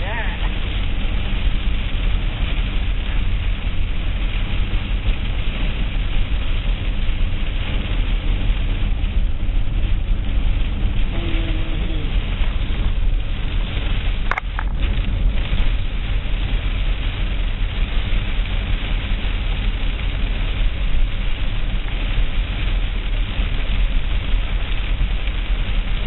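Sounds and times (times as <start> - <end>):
car driving through rain: 0.0 - 26.0.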